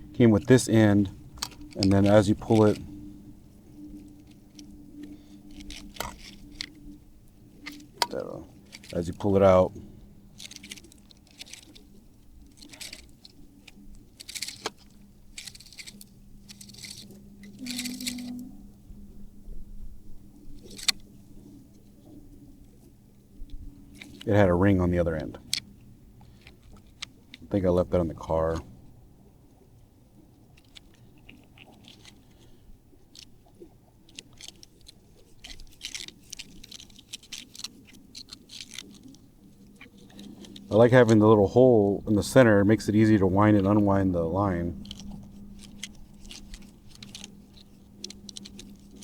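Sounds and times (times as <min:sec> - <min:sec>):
small parts clicking and crackling: 0:00.0 - 0:18.8, 0:20.4 - 0:29.0, 0:29.8 - 0:41.4, 0:42.1 - 0:49.0
light rustling: 0:00.0 - 0:19.2, 0:20.3 - 0:49.0
faint low hum: 0:00.0 - 0:49.0.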